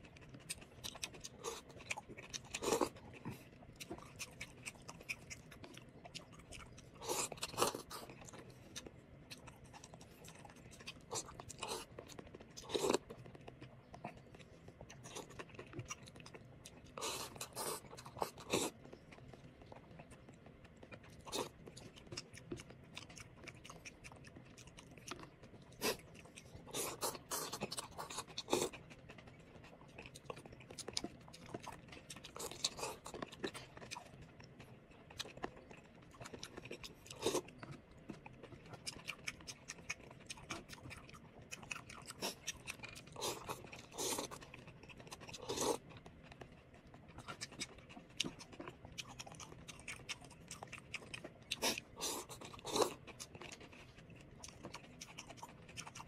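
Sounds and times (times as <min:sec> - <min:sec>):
person chewing: 0:00.0 - 0:56.0.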